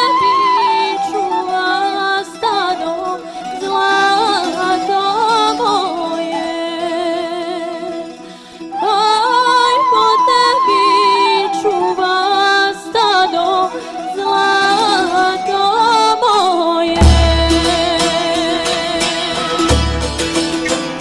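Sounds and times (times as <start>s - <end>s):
person singing with vibrato: 0.0s - 20.1s
music: 0.0s - 21.0s.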